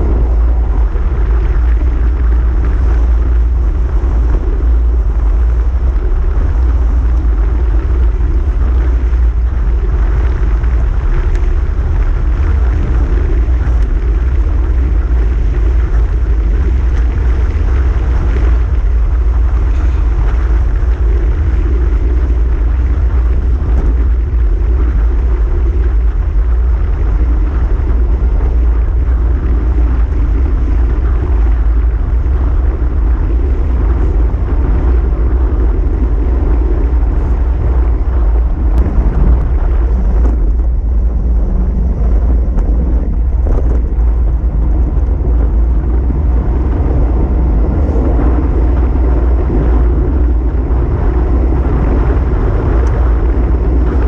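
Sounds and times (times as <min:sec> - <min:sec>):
road noise: 0:00.0 - 0:54.0
wind rushing over microphone: 0:00.0 - 0:54.0.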